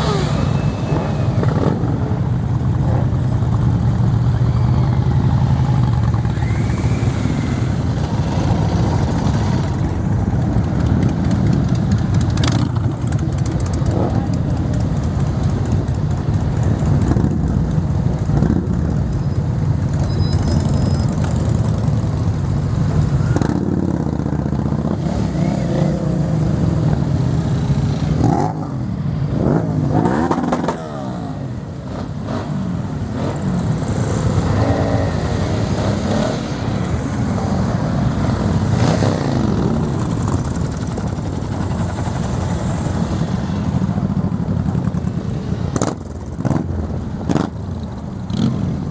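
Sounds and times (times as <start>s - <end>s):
motorcycle engines idling and revving: 0.0s - 48.9s.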